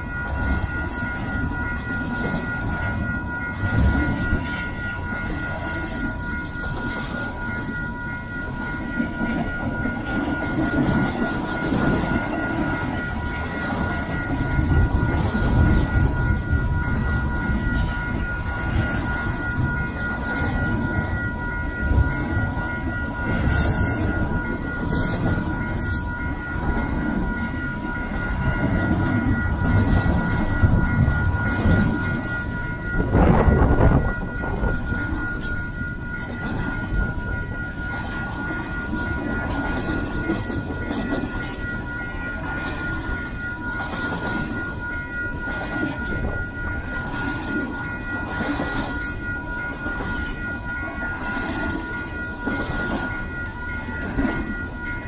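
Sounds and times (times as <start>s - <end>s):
high-pitched ringing tone: 0.0s - 55.0s
train wheels clattering on rails: 0.0s - 55.0s.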